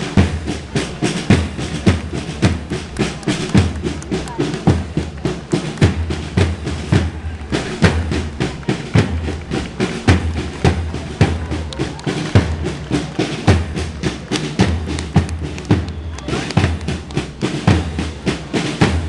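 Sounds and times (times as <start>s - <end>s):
bass drum beats: 0.0s - 19.0s
marching band playing: 0.0s - 19.0s
snare drum strokes and rolls: 0.0s - 19.0s.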